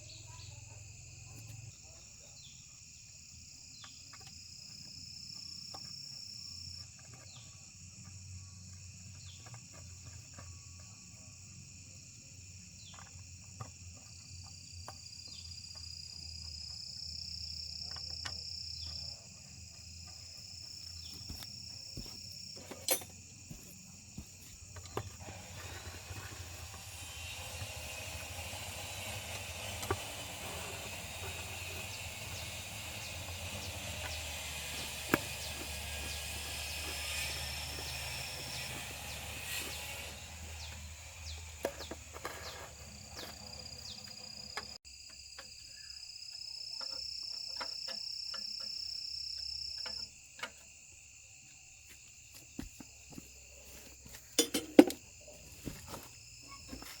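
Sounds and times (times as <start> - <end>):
insects chirping and buzzing: 0.0 - 57.0
shrill insect trill: 0.0 - 57.0.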